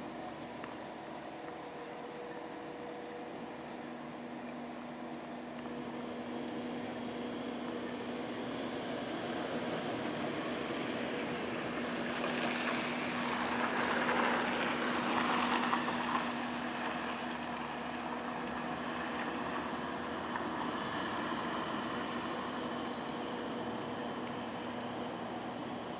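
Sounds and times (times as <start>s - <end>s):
low mechanical hum: 0.0s - 25.9s.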